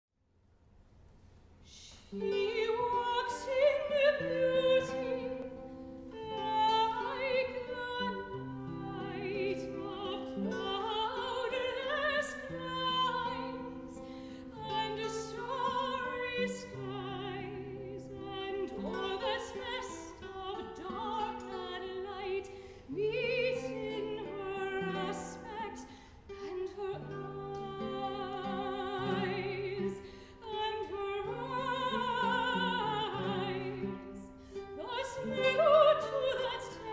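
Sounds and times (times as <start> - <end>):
soprano singing with vibrato: 1.7 - 36.9
guitar accompaniment: 1.8 - 36.9.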